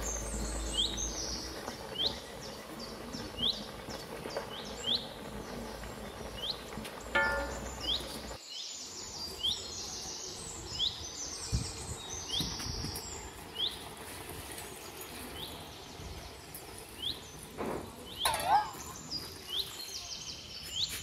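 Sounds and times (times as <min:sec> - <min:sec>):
birds twittering: 0:00.0 - 0:21.0.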